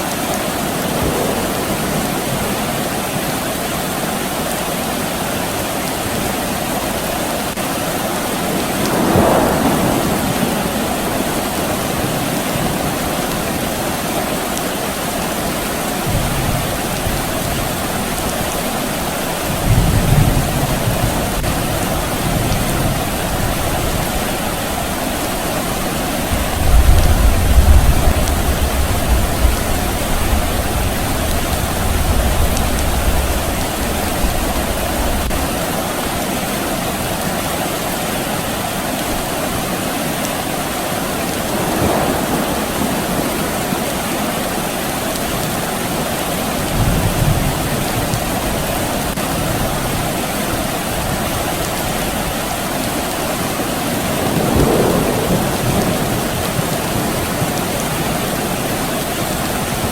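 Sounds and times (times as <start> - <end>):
steady rain: 0.0 - 59.9
distant thunder rumble: 0.1 - 5.4, 8.2 - 35.9, 41.0 - 50.2, 51.0 - 59.9.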